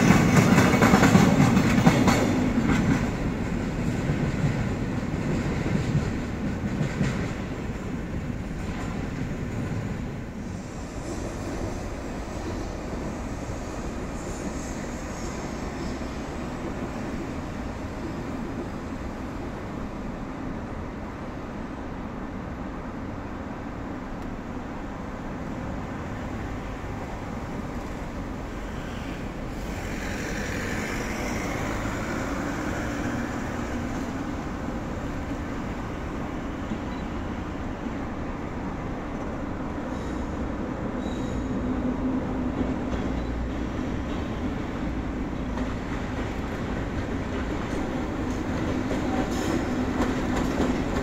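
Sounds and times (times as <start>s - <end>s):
electric locomotive low rumble: 0.0s - 51.0s.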